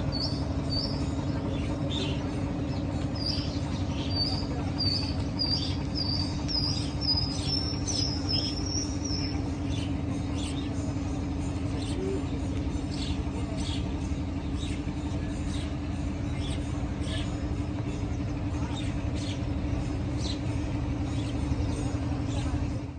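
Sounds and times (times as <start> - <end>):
motorboat engine humming: 0.0 - 22.9.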